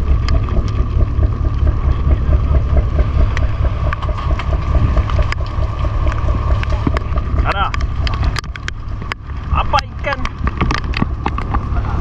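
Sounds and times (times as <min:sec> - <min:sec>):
boat engine pulsing: 0:00.0 - 0:12.0.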